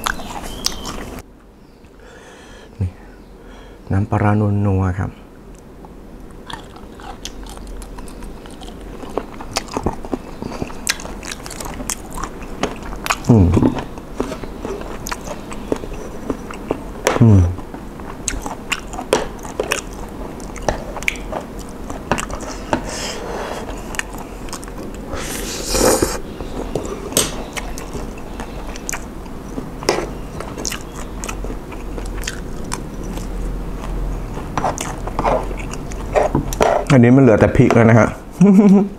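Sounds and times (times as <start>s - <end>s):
wet chewing with crunches: 0.0s - 1.2s, 5.8s - 37.0s.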